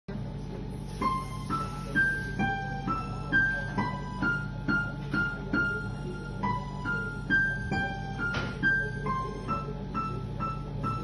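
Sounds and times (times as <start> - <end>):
slow piano melody: 0.7 - 11.0.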